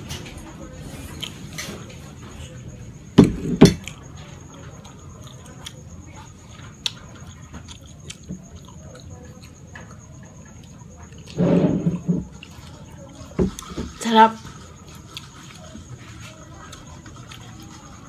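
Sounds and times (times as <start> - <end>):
chewing food: 0.1 - 3.1, 3.8 - 18.0.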